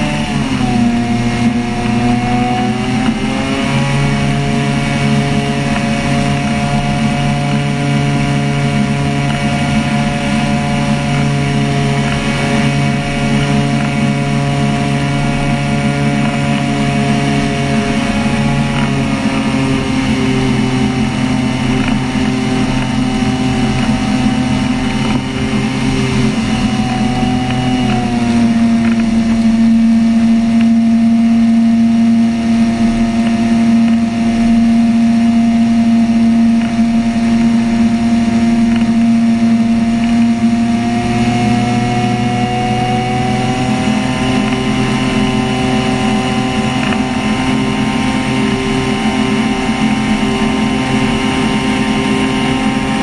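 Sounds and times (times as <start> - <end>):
ultralight aircraft engine and propeller: 0.0 - 53.0.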